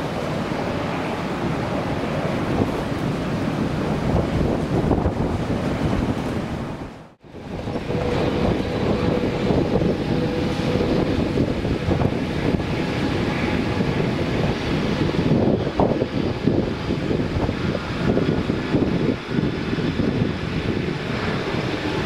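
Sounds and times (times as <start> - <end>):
jet engines running: 0.0 - 22.0
wind buffeting microphone: 0.0 - 22.0.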